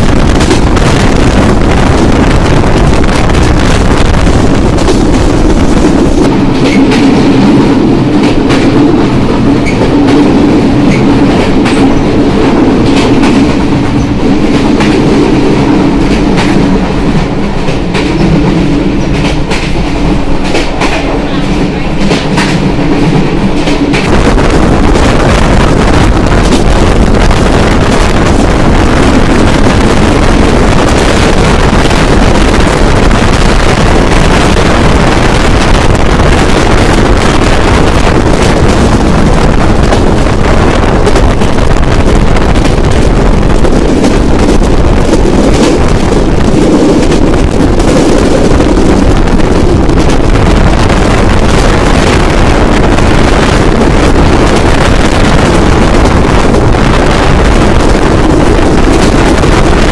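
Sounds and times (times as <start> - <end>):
train rumbling on the track: 0.0 - 59.9
wind buffeting the microphone: 0.0 - 59.9.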